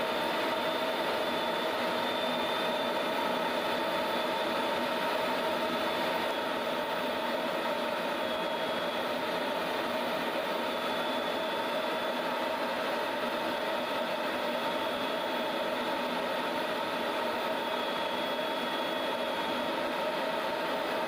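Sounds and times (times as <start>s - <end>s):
thin high whine: 0.0s - 21.0s.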